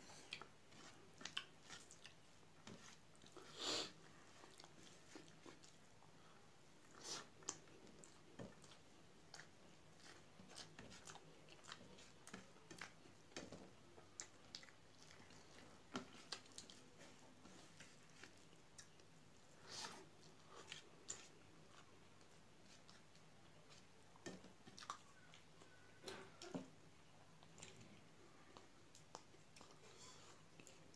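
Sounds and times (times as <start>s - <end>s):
person chewing and lip smacking: 0.0s - 3.4s, 4.4s - 6.1s, 6.8s - 17.0s, 17.8s - 19.2s, 19.8s - 30.9s.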